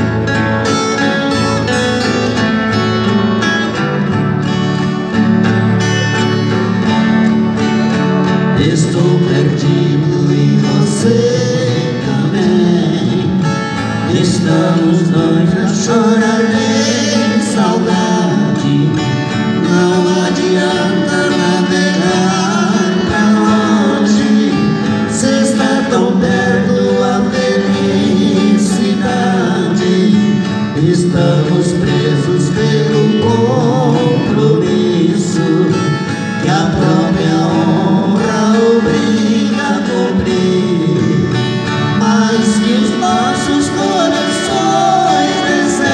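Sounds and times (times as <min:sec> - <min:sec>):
strummed acoustic guitars: 0:00.0 - 0:45.9
two men singing a duet: 0:08.2 - 0:45.9.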